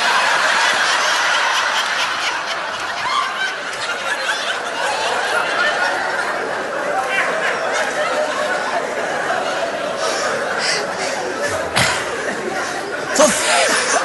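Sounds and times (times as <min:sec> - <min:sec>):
large audience laughing: 0:00.0 - 0:14.0.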